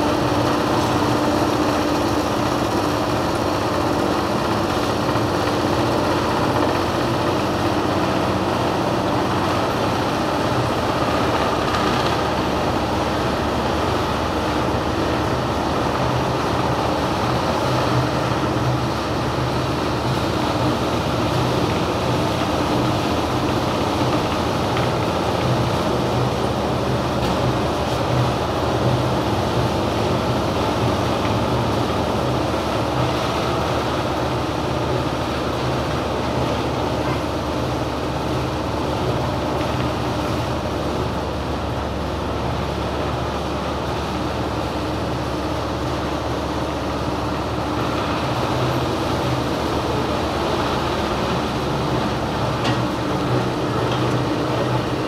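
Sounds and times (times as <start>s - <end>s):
oil expeller mechanical drone: 0.0s - 55.0s.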